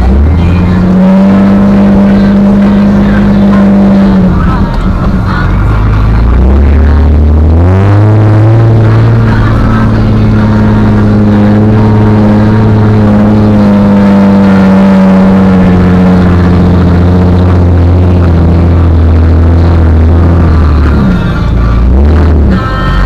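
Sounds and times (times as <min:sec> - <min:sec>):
car engine revving under load: 0:00.0 - 0:23.0.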